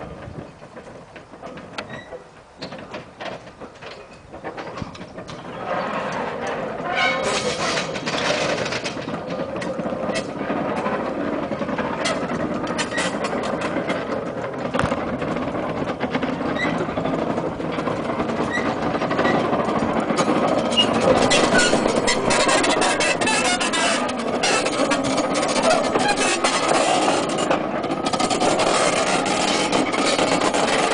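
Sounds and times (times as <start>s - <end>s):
electric locomotive running slowly: 0.0s - 30.9s
wheels clicking on rails: 0.0s - 30.9s.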